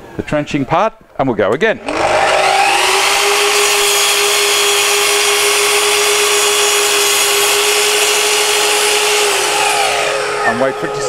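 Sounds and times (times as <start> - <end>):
miter saw whining: 1.8 - 11.0.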